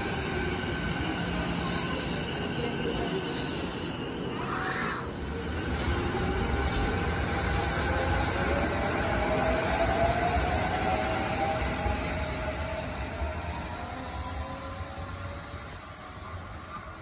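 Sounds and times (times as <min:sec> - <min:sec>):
low train running rumble: 0:00.0 - 0:17.0.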